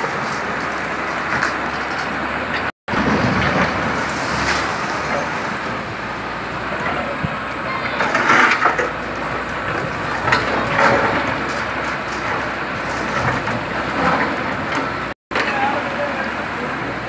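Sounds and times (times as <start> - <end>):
masonry crumbling: 0.0 - 16.4
excavator engine running: 0.0 - 17.0.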